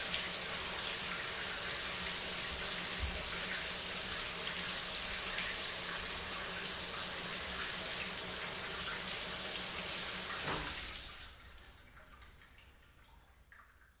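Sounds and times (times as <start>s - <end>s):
shower water spraying: 0.0s - 11.2s.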